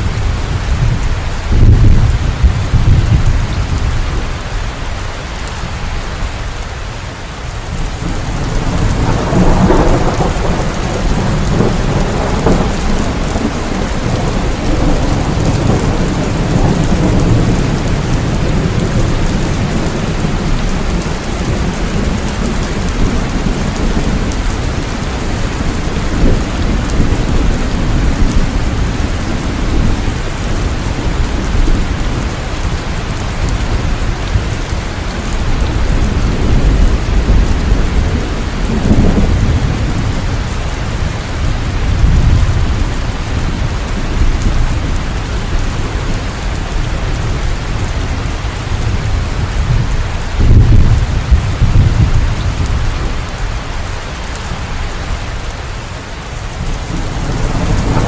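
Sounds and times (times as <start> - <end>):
thunder rumbling: 0.0 - 4.5, 7.6 - 58.0
heavy rain: 0.0 - 58.0.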